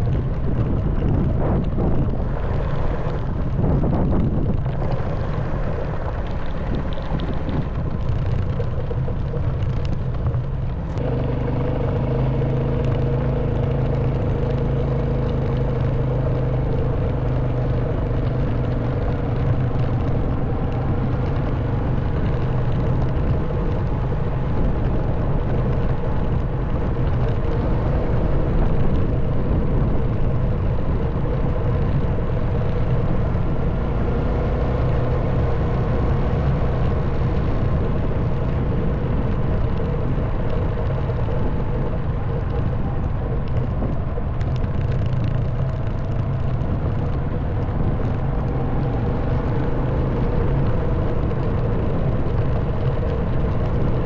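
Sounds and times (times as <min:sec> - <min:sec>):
motorcycle engine drone: 0:00.0 - 0:54.0
wind and road noise: 0:00.0 - 0:54.0.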